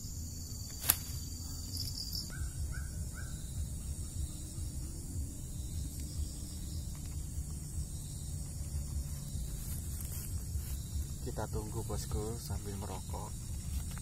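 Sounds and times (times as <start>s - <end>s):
high buzz of insects: 0.0s - 14.0s
bird calling: 0.7s - 13.8s.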